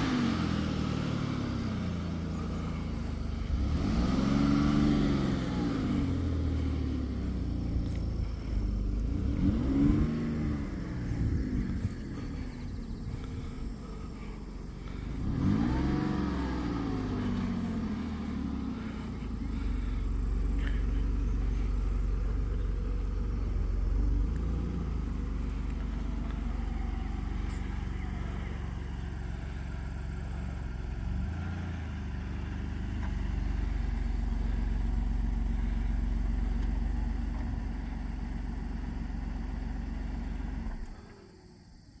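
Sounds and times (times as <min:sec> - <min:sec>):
car engine revving and idling: 0:00.0 - 0:42.0.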